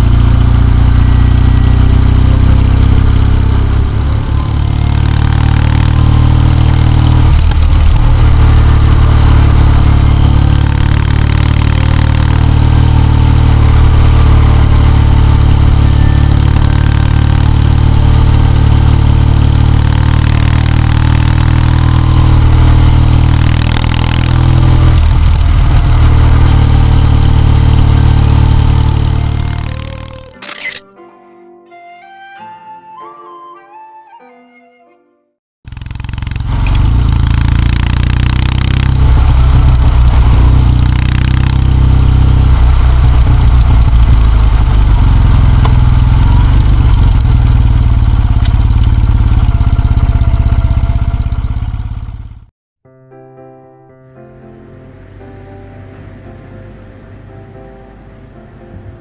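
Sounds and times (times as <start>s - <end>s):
motorcycle engine running: 0.0s - 30.8s, 35.6s - 52.5s.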